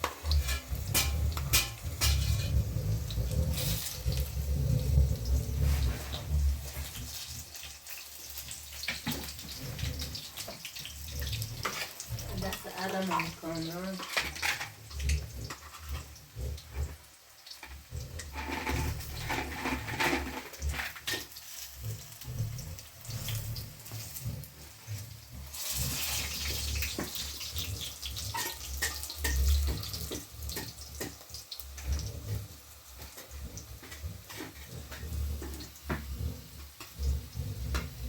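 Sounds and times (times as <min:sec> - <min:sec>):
water running and splashing: 0:00.0 - 0:38.0.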